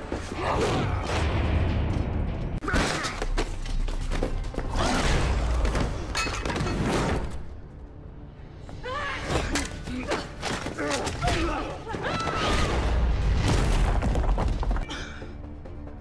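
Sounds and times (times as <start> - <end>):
dramatic music score: 0.0 - 16.0.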